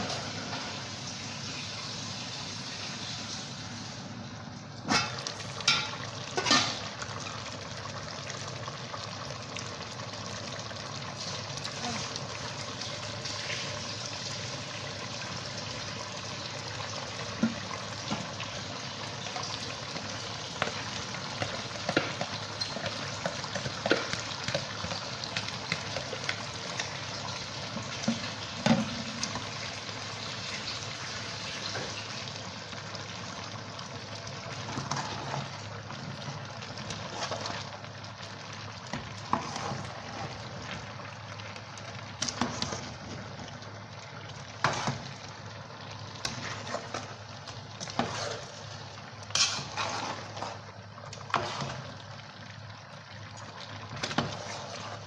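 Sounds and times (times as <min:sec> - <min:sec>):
soup sizzling in a pot: 0:00.0 - 0:55.0.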